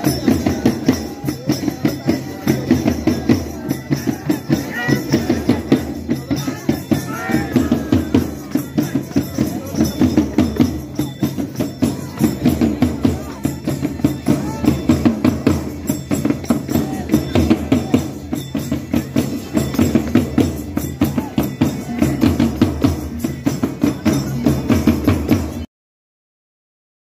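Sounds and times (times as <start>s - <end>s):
crowd: 0.0s - 25.7s
frame drum beaten fast: 0.0s - 25.7s.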